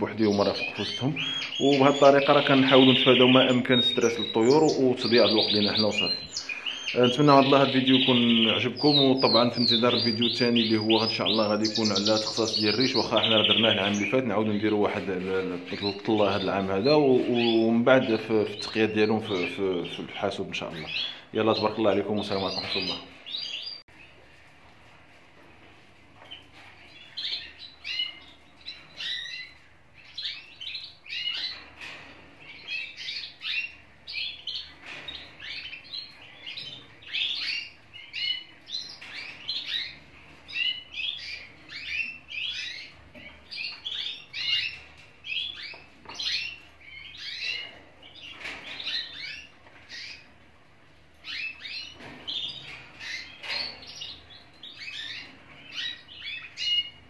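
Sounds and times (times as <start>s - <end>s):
canaries chirping and trilling: 0.0s - 57.0s.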